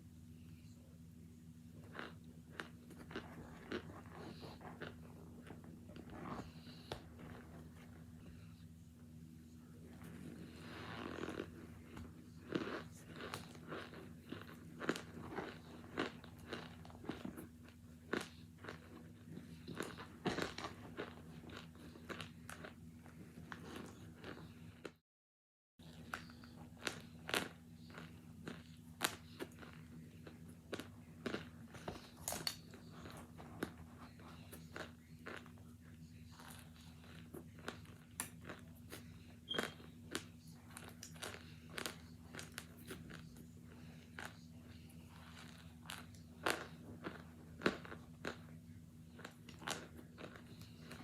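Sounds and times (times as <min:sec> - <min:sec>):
low steady hum: 0:00.0 - 0:25.0, 0:25.8 - 0:51.0
crunching and chewing: 0:01.7 - 0:08.7, 0:09.6 - 0:25.0, 0:25.8 - 0:51.0.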